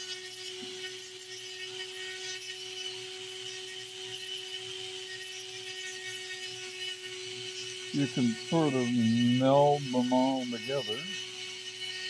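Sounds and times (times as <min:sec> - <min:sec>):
rotary tool sanding stone: 0:00.0 - 0:12.0.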